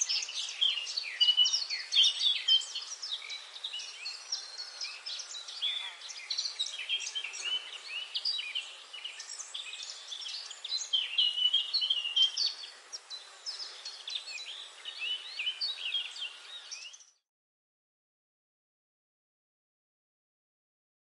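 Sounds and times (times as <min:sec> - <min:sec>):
steady background hiss: 0:00.0 - 0:16.9
birds chirping: 0:00.0 - 0:17.2.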